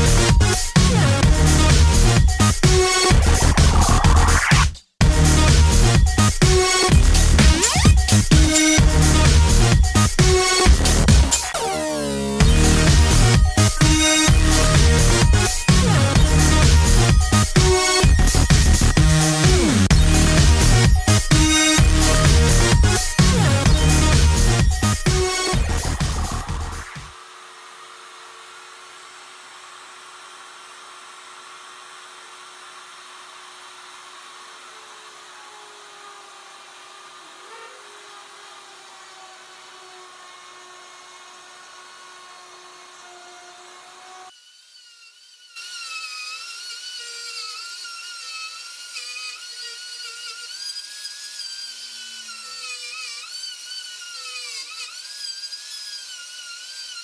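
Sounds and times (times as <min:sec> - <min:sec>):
router motor whining: 0:00.0 - 0:57.0.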